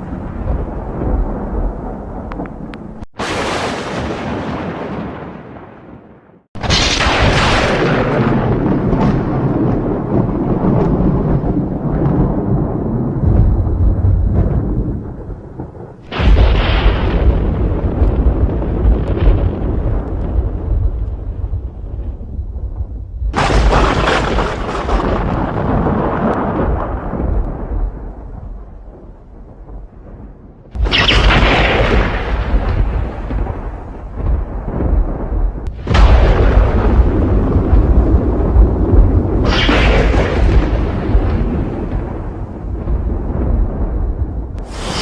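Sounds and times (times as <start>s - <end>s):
sharp crack of thunder: 0.0s - 45.0s
thunder rumbling: 0.0s - 45.0s.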